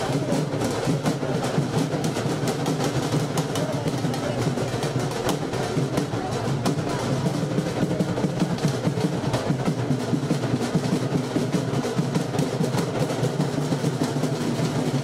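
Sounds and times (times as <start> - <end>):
music with busy drumming: 0.0 - 15.0.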